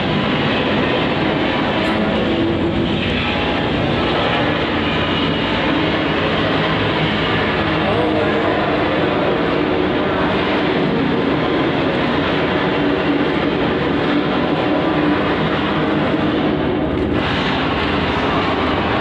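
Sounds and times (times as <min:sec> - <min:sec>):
loud machine drone: 0:00.0 - 0:19.0.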